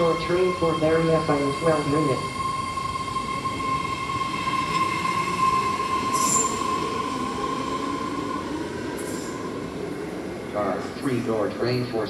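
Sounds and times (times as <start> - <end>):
train high-pitched whine: 0.0 - 9.7.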